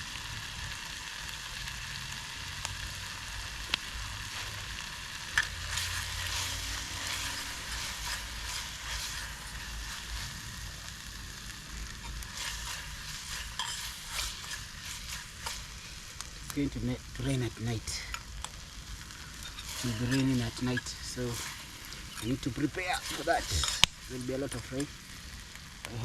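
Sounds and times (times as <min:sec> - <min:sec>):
campfire crackles and pops: 0:00.0 - 0:26.0
food sizzling: 0:00.0 - 0:26.0.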